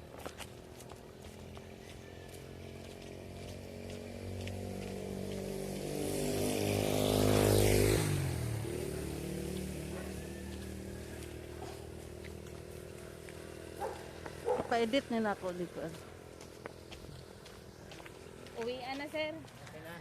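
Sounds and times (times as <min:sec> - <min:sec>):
vehicle engine passing by: 0:01.0 - 0:20.0.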